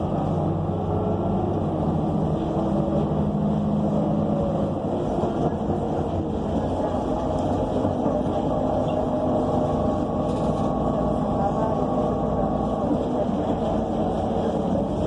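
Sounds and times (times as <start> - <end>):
bus engine running: 0.0 - 15.0
road noise: 0.0 - 15.0.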